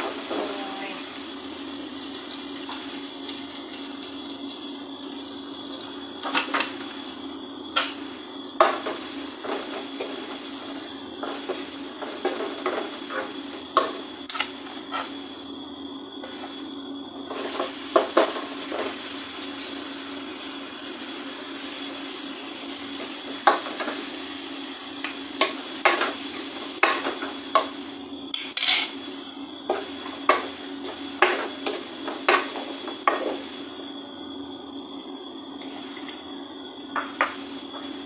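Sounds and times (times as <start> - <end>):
vegetables sizzling in a pot: 0.0 - 38.0.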